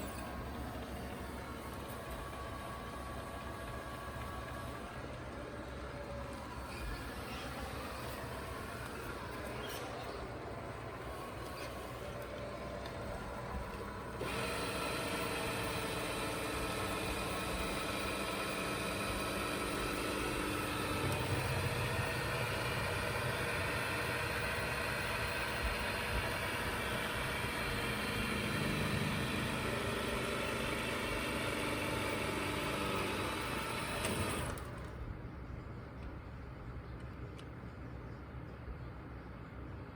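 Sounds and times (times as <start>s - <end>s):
robot vacuum motor hum: 0.0s - 35.0s.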